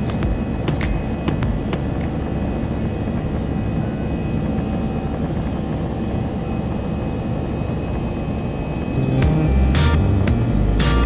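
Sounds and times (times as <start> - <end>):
aircraft cabin engine and airflow rush: 0.0 - 11.0.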